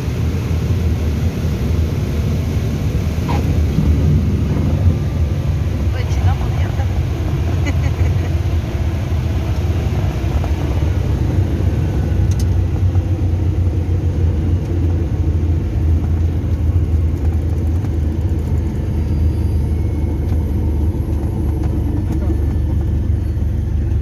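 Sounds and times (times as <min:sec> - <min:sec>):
propeller plane engine drone: 0:00.0 - 0:24.0.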